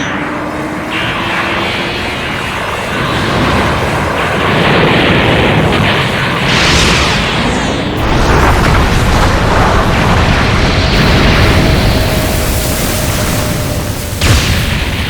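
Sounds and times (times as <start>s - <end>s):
rumbling energy blast: 0.0s - 15.0s.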